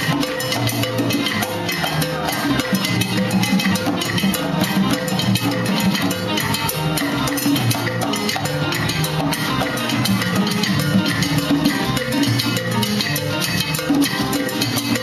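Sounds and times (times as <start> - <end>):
congas struck by hand: 0.0 - 15.0
salsa band playing: 0.0 - 15.0.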